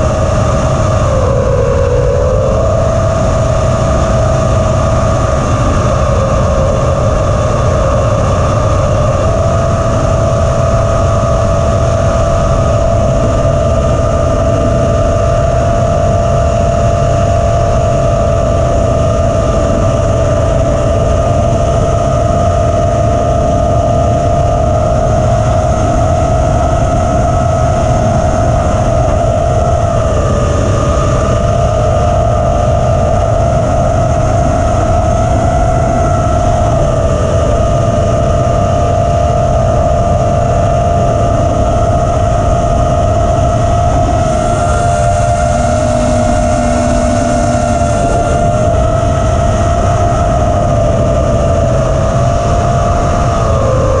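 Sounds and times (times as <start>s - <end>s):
drone motors whining: 0.0s - 54.0s
heavy low rumble: 0.0s - 54.0s.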